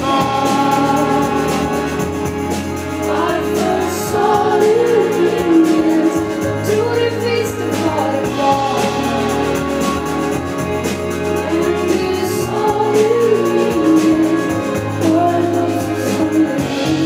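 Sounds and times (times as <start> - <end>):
woman singing pop song: 0.0 - 2.2, 2.8 - 9.9, 11.3 - 17.0
live band playing: 0.0 - 17.0.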